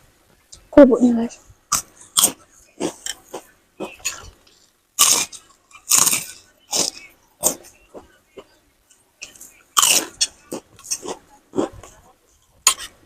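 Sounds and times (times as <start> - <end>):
crackers crunching: 1.7 - 8.5, 9.2 - 13.0.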